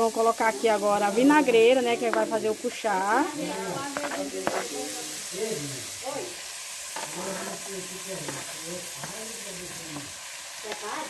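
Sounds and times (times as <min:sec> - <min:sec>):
garlic and onion sizzling: 0:00.0 - 0:11.0.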